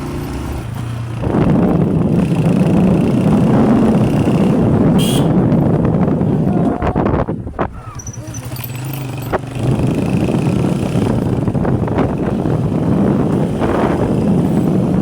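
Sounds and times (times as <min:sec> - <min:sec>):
motorcycle engine running: 0:00.0 - 0:06.6, 0:07.6 - 0:15.0
wind rushing on microphone: 0:00.0 - 0:08.3, 0:09.1 - 0:15.0.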